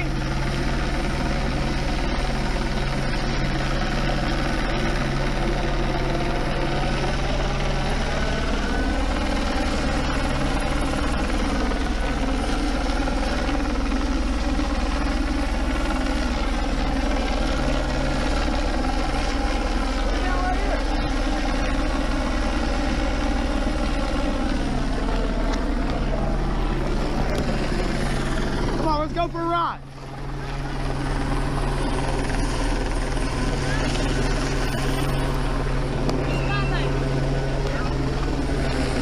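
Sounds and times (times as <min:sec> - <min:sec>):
helicopter rotor drone: 0:00.0 - 0:39.0.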